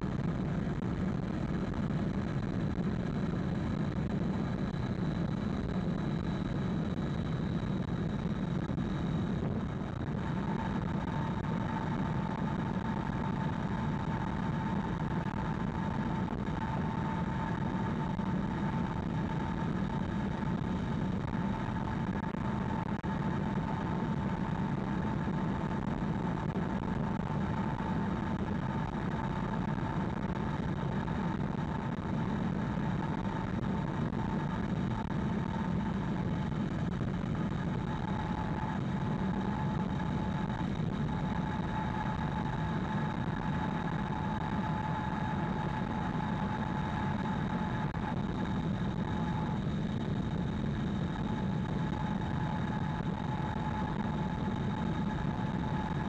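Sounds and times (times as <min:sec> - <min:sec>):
thin steady whine: 0:00.0 - 0:56.0.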